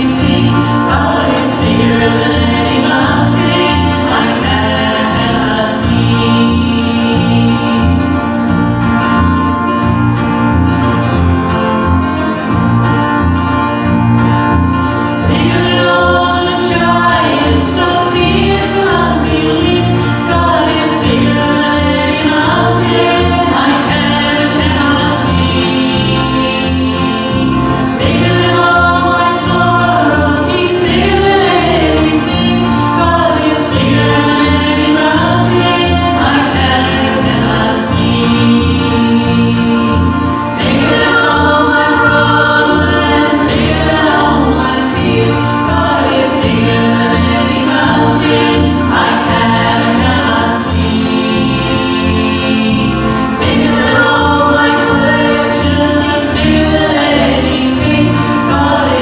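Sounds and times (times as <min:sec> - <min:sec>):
vocal group singing gospel: 0:00.0 - 0:59.0.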